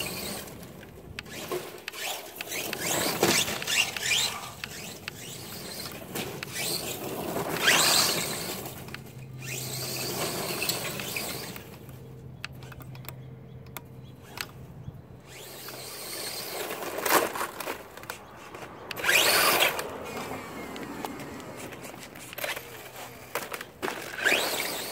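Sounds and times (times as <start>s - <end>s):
toy truck motor whine: 0.0s - 11.9s, 15.2s - 24.9s
toy truck tumbling clatter: 0.0s - 12.0s, 15.3s - 24.9s.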